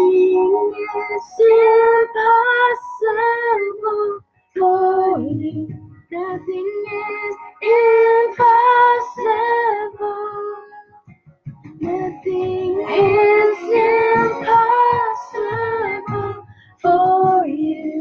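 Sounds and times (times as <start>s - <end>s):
woman singing a melody: 0.0s - 10.8s, 11.8s - 18.0s.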